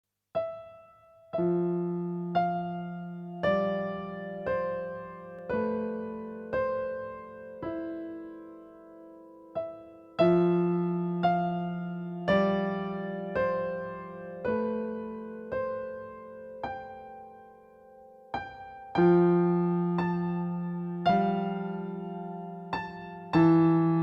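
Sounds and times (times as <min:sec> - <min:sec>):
slow gentle piano music: 0:00.3 - 0:24.0.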